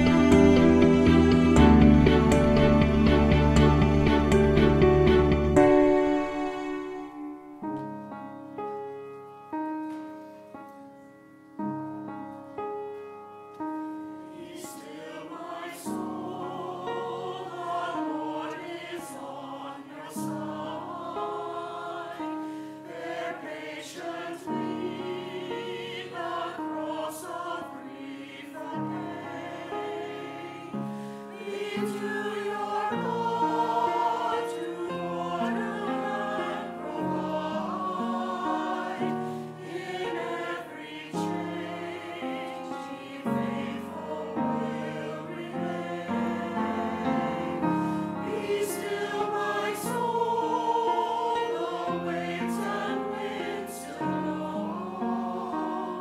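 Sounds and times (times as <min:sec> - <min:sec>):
mixed choir singing: 0:00.0 - 0:07.9, 0:14.2 - 0:56.0
piano chords: 0:00.0 - 0:56.0.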